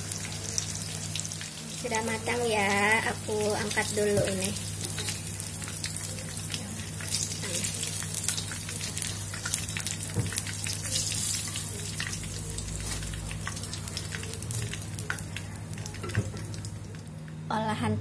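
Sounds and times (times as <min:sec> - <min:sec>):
hot oil sizzling and popping: 0:00.0 - 0:17.4.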